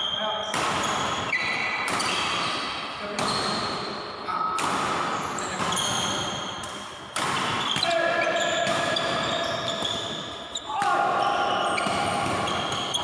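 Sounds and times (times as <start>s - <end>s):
racket hitting shuttlecock: 0.5s - 3.6s, 4.6s - 11.2s, 11.8s - 13.0s.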